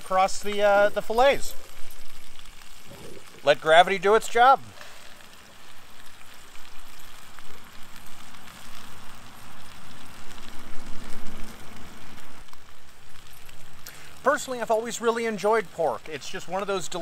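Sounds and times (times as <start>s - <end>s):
meat sizzling in a skillet: 0.0s - 17.0s
wood fire crackling: 0.0s - 17.0s.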